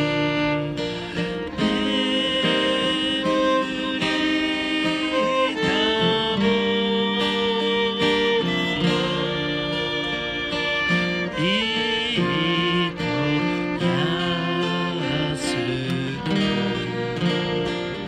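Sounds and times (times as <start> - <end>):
acoustic guitars strumming: 0.0 - 18.0
violin bowed melody: 0.0 - 18.0.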